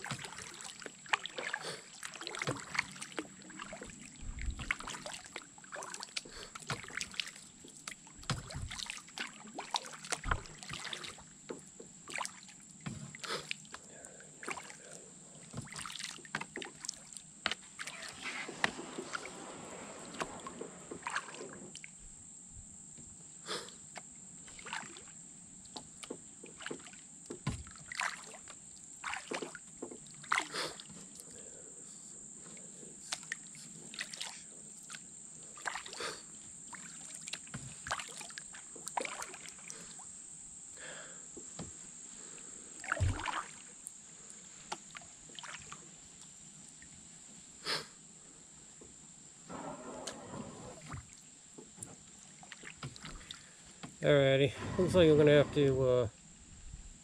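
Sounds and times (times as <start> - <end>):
paddle splashes and drips: 0.0 - 22.2, 23.9 - 31.3, 33.0 - 40.1, 40.8 - 47.1, 48.8 - 56.0
steady high-pitched hiss: 0.0 - 57.0.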